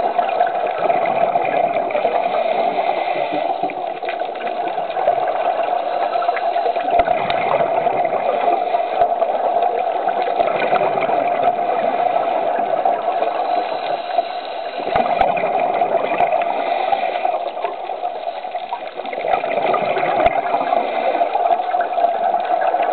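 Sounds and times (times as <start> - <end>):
underwater bubbling from regulator: 0.0 - 22.9.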